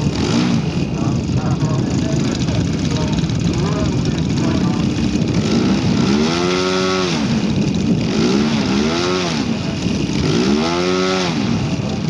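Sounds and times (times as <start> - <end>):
model aircraft engine revving: 0.0 - 12.0.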